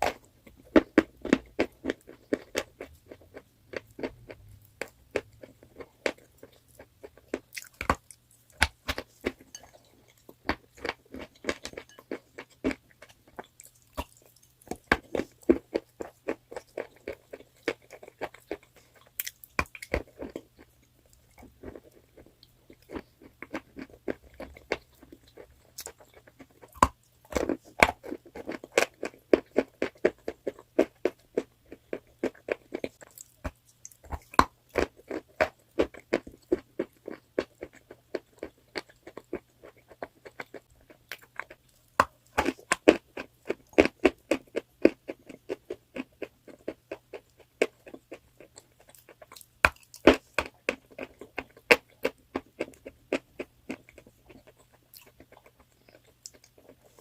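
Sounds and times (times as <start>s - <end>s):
person chewing crunchy chalk: 0.0s - 57.0s.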